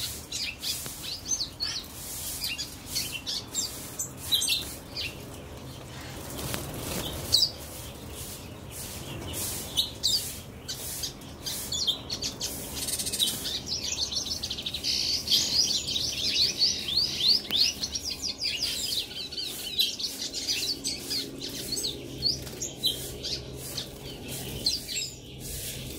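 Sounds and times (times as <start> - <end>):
songbird chirping: 0.0 - 25.9.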